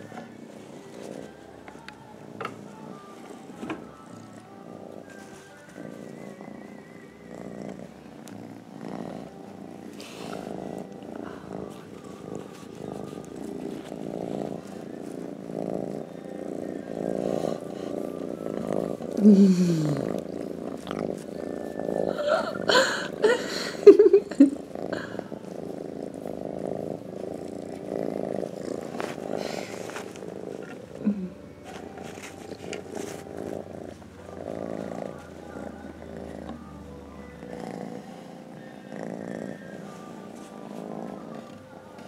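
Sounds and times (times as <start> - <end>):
kitten purring: 0.0 - 42.0.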